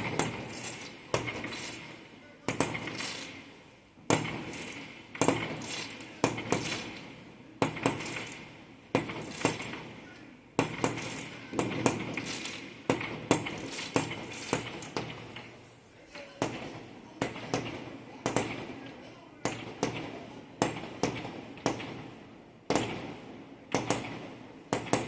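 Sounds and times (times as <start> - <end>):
fireworks banging and crackling: 0.0 - 25.0.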